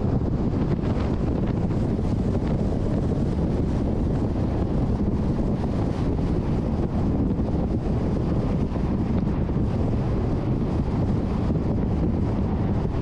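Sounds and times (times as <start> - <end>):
car road noise from inside: 0.0 - 13.0
wind noise: 0.0 - 13.0.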